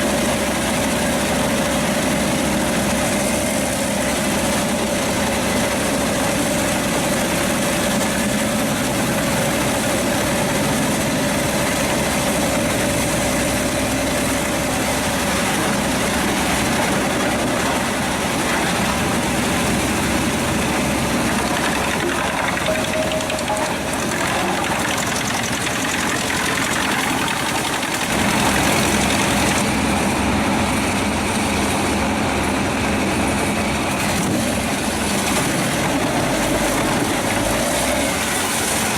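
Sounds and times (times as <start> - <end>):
wood chipper diesel drone: 0.0 - 38.9.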